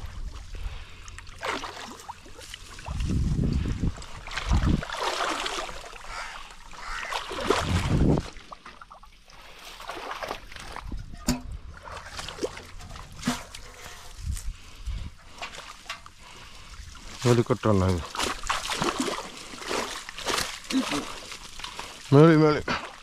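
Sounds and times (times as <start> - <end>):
water splashing and sloshing: 0.0 - 23.0.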